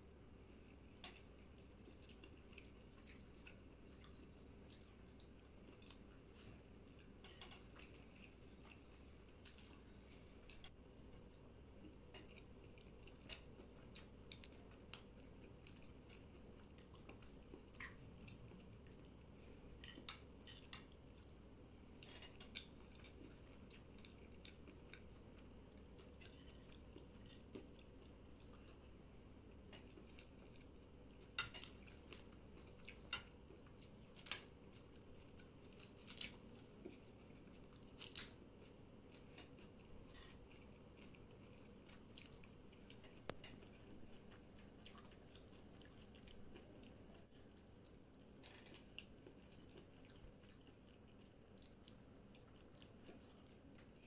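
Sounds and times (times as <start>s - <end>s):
chewing and mouth sounds: 0.5s - 28.9s, 29.5s - 54.0s.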